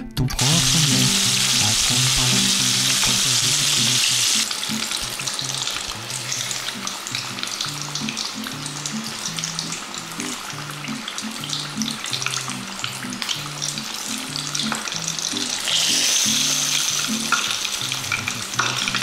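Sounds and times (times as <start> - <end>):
soft bass line music: 0.0 - 19.0
chicken deep-frying in oil: 0.3 - 19.0.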